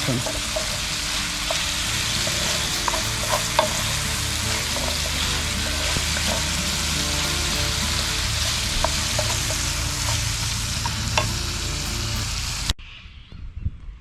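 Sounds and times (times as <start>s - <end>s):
vegetables sizzling in a pan: 0.0s - 12.8s
utensil clicking against pan: 0.1s - 11.4s.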